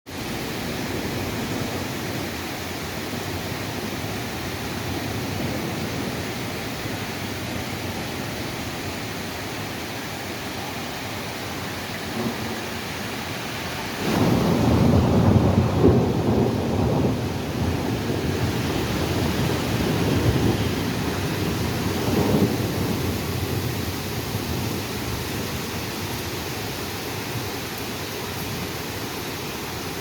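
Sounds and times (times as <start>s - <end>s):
steady rain: 0.1s - 30.0s
thunder rumbling: 0.2s - 29.0s.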